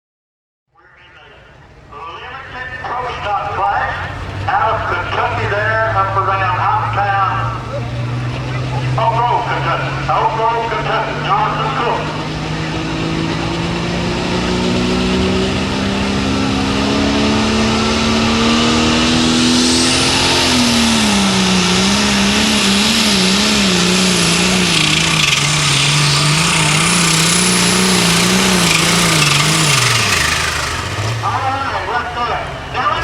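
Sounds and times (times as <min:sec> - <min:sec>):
diesel tractor engine labouring: 0:00.8 - 0:33.0
high turbo whine: 0:01.2 - 0:33.0.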